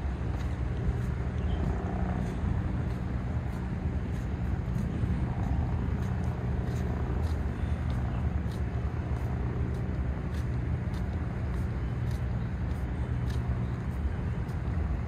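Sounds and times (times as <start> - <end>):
distant city traffic rumble: 0.0 - 15.0
faint footsteps: 0.0 - 15.0.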